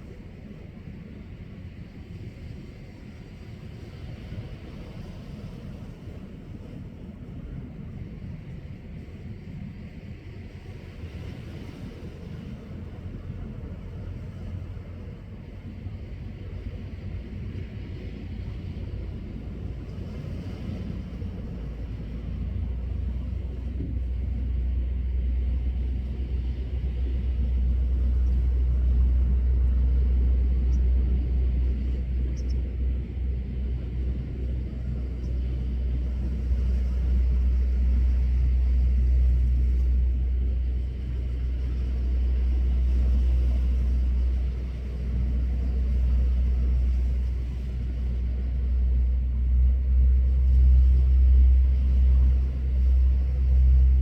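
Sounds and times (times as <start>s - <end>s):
low rumble: 2.9s - 54.0s.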